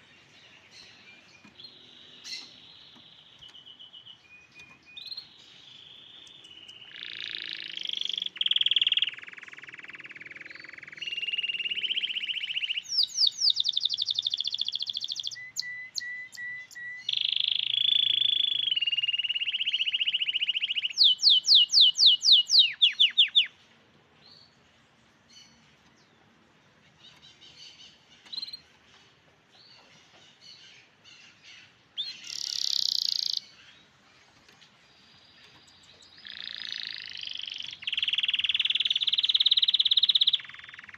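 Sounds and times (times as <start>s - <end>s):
canary singing: 0.0s - 23.6s, 29.6s - 40.9s.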